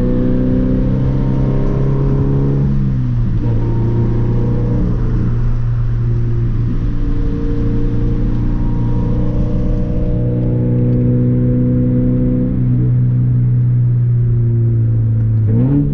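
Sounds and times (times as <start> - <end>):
car engine droning: 0.0 - 15.9.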